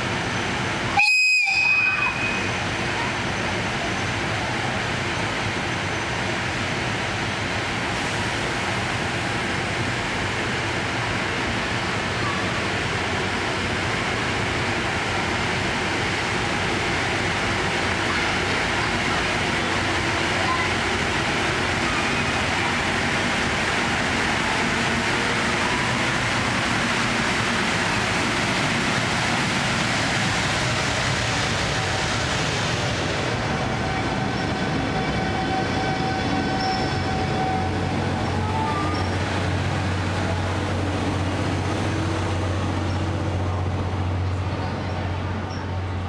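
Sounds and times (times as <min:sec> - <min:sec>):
locomotive rushing noise: 0:00.0 - 0:46.0
train carriages running: 0:00.0 - 0:46.0.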